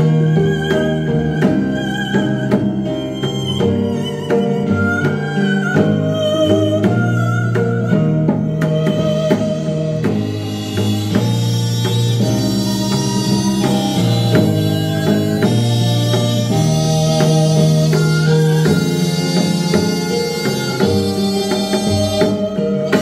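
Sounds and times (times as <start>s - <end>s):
bowed string melody: 0.0s - 23.0s
plucked string notes: 0.0s - 23.0s.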